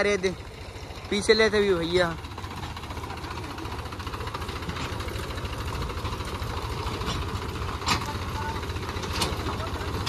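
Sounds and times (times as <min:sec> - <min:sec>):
tractor diesel engine chugging: 0:00.0 - 0:10.0.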